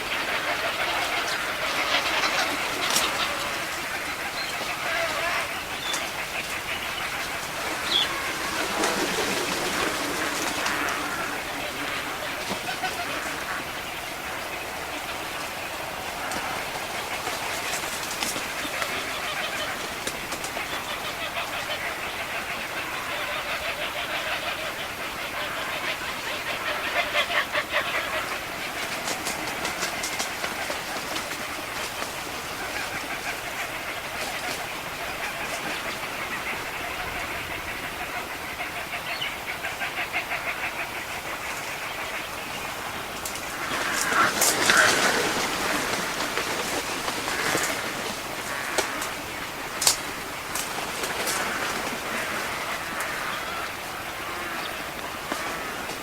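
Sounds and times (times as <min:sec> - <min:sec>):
flock of birds chattering: 0:00.0 - 0:56.0.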